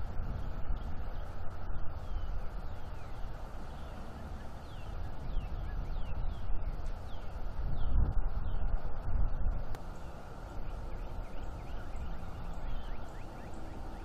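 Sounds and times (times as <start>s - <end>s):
low rumble and hiss: 0.0s - 14.0s
small birds chirping: 0.0s - 14.0s.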